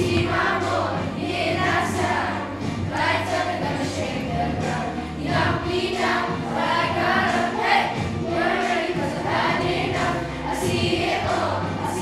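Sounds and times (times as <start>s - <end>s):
backing music: 0.0s - 12.0s
children singing: 0.0s - 12.0s.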